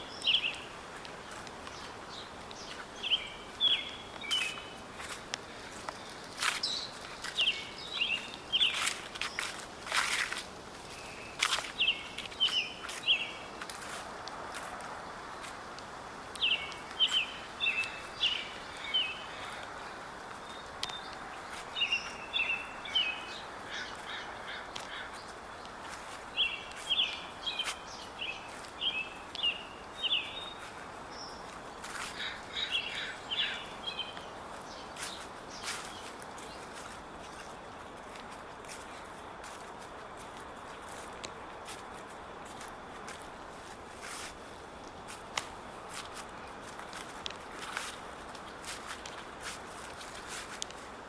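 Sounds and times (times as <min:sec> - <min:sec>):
steady outdoor hiss: 0:00.0 - 0:51.0.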